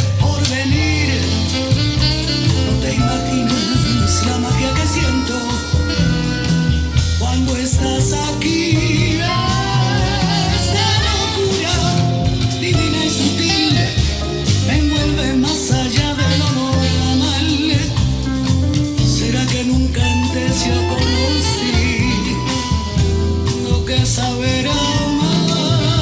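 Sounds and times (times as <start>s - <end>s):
song with strong bass line: 0.0s - 26.0s.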